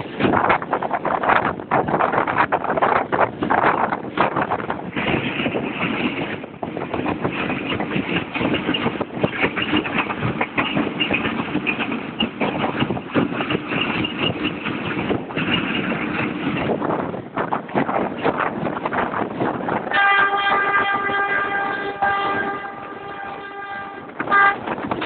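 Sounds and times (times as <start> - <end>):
rattling and clatter: 0.0 - 19.9, 22.6 - 25.0
train wheels rumbling on rails: 0.0 - 25.0.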